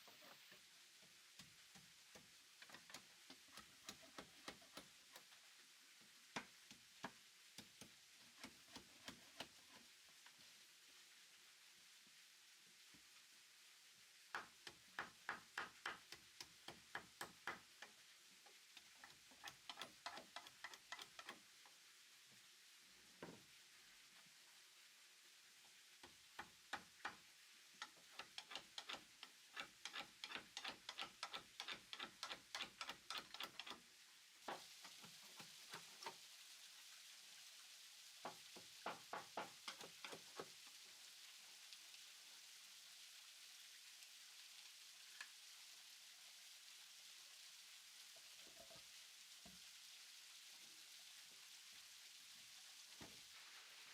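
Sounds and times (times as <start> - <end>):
steady hiss: 0.0 - 53.9.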